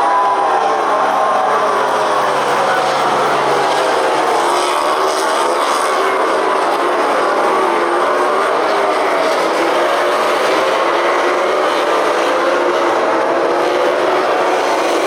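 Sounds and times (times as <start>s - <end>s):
race motorcycle engines at high revs: 0.0s - 15.0s.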